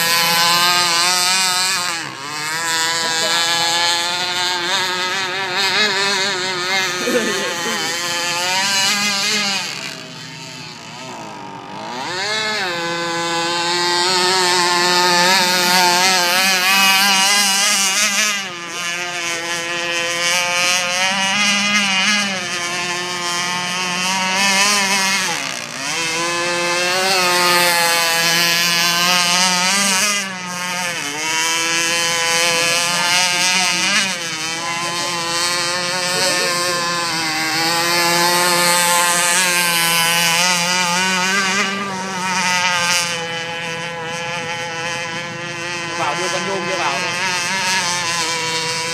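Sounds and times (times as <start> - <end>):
model boat motor running: 0.0 - 48.9.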